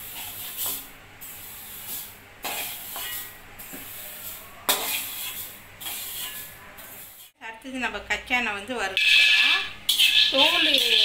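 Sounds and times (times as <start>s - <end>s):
spoon scraping seeds from pan: 0.0s - 7.4s, 9.0s - 11.0s.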